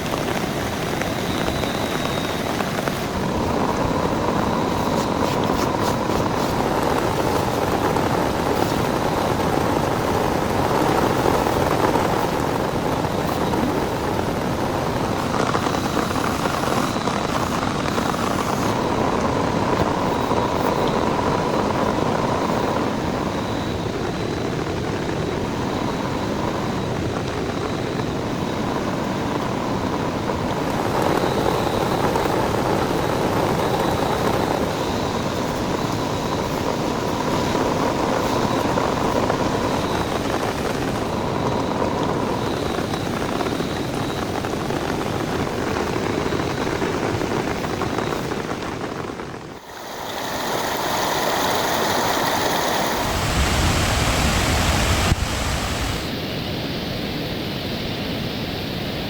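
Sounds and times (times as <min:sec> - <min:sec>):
heavy rain hiss: 0:00.0 - 0:57.9.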